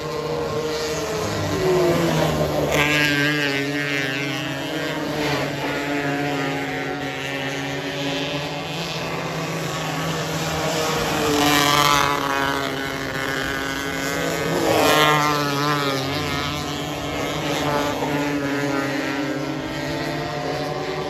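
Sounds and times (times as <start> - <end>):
race car engines revving: 0.0 - 21.0
race car passing by: 0.0 - 21.0.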